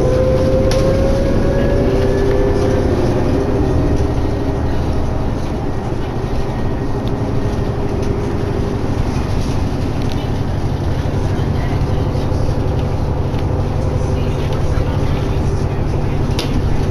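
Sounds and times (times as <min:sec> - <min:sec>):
bus engine and road rumble: 0:00.0 - 0:16.9
drivetrain whine: 0:00.0 - 0:16.9.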